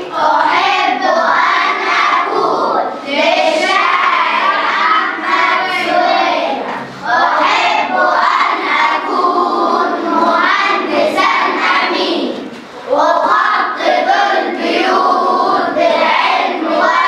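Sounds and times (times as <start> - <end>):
children chanting in unison: 0.0 - 17.0.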